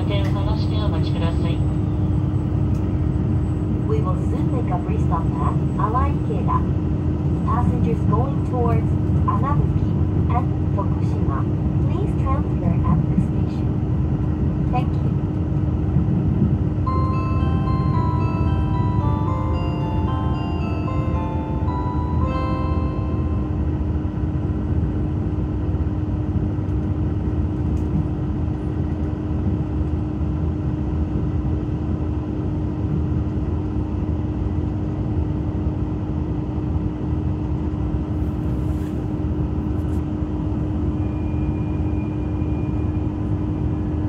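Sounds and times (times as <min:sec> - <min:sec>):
diesel engine hum: 0:00.0 - 0:41.0
train rumbling: 0:00.0 - 0:44.0.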